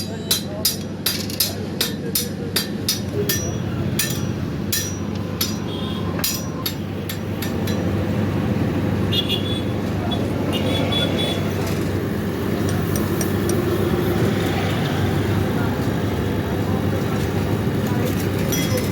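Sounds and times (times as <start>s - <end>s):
road traffic rumble: 0.0s - 18.9s.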